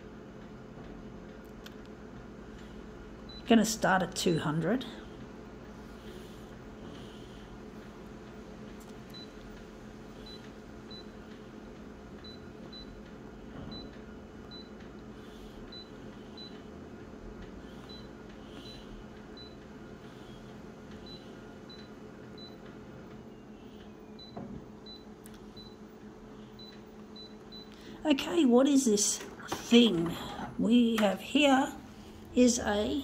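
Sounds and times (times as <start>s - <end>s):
copier low hum: 0.0s - 33.0s.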